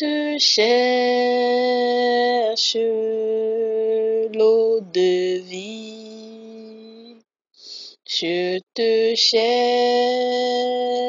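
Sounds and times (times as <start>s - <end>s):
woman singing worship song: 0.0s - 7.2s, 8.1s - 11.0s.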